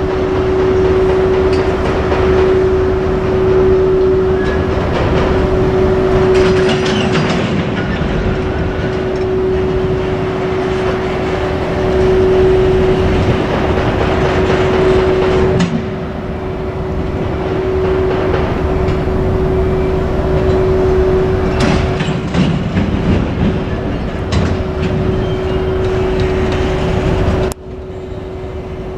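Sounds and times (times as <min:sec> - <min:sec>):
steady tone: 0:00.0 - 0:28.9
train wheels rumbling and clattering: 0:00.0 - 0:28.9.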